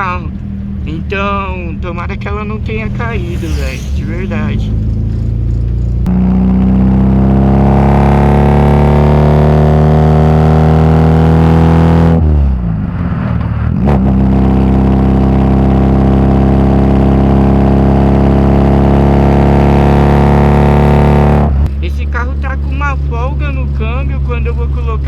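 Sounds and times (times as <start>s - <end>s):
car engine accelerating: 0.3s - 21.6s.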